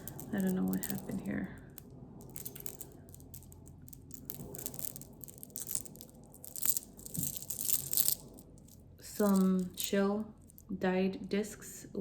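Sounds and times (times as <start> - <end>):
jewelry rustling and crinkling: 0.0 - 10.8.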